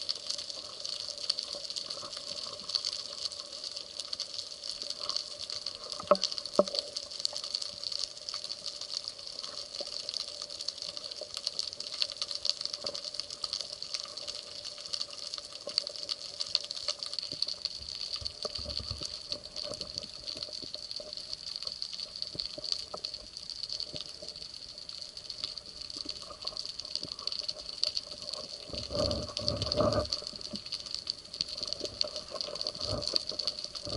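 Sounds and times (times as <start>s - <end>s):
small clicks and crackles: 0.0s - 33.9s.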